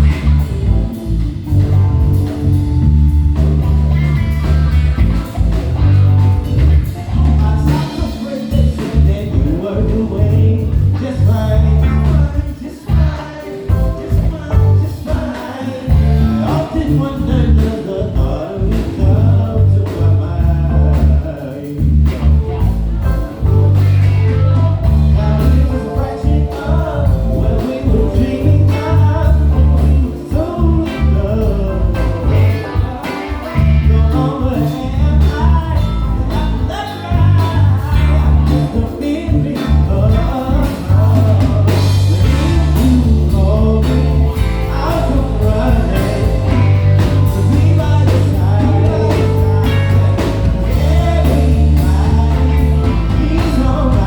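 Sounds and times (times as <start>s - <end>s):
heavy bass line: 0.0s - 54.0s
live soul band playing: 0.0s - 54.0s.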